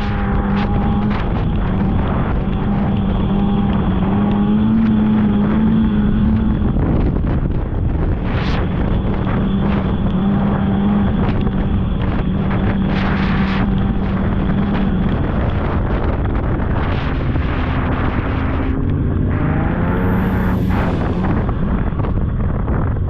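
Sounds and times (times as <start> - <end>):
snowmobile engine running: 0.0 - 23.0
wind buffeting microphone: 0.0 - 23.0.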